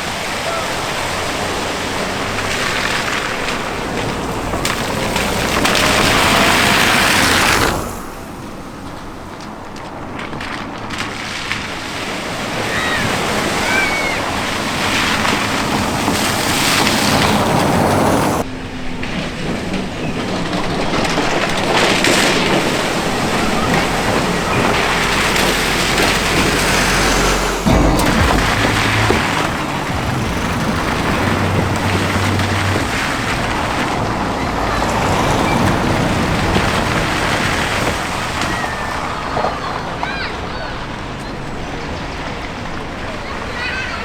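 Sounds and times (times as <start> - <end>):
vehicle engines running: 0.0 - 44.0
water splashing and rushing: 0.0 - 44.0.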